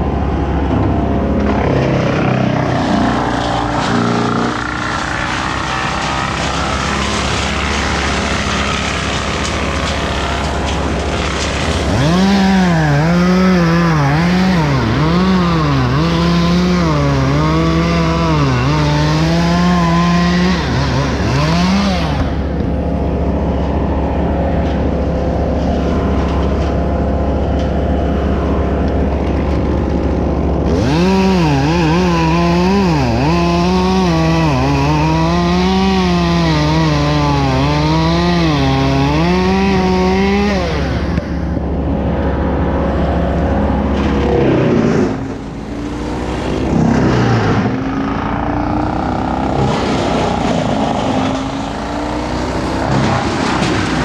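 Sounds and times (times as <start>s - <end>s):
chainsaw cutting wood: 0.2s - 54.0s.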